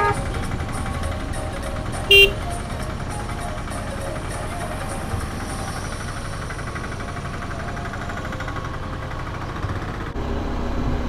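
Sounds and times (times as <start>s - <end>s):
motorcycle engine idling: 0.0s - 10.2s
idling traffic: 0.0s - 11.0s.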